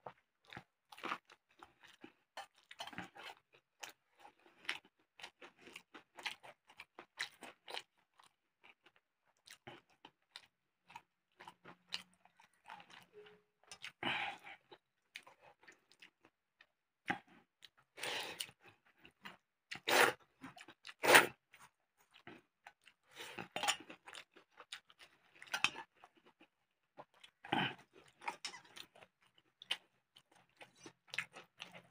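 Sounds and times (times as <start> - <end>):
chewing and crunching food: 0.0 - 31.9.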